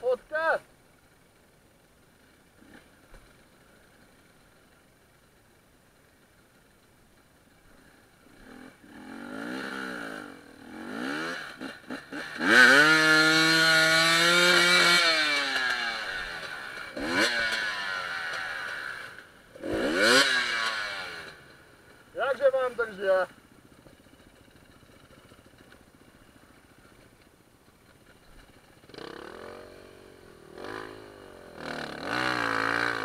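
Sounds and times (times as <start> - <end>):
motorcycle engines revving: 2.2 - 4.8, 7.6 - 27.2, 27.8 - 33.0.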